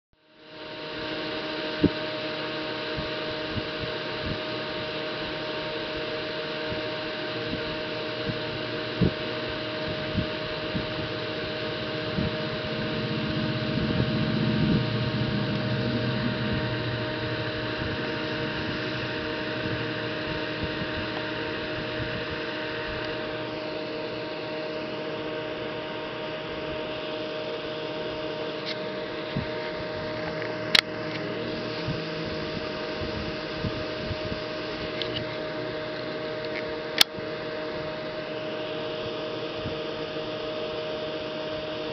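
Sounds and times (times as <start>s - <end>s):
mechanical hum with fixed tones: 0.2s - 41.9s.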